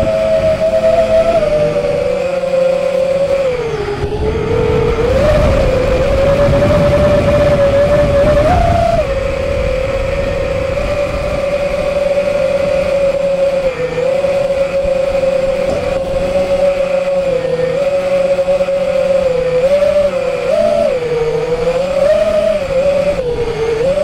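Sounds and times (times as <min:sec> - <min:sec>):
drone motors whining: 0:00.0 - 0:24.0
wind rushing: 0:00.0 - 0:24.0.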